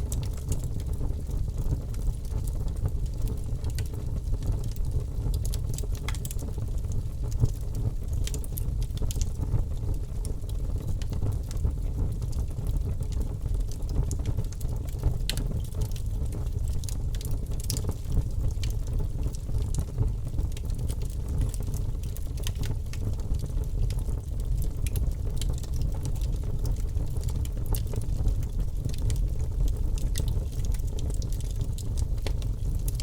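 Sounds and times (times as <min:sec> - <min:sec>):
low rumble of flames: 0:00.0 - 0:33.0
wood fire crackling: 0:00.0 - 0:33.0.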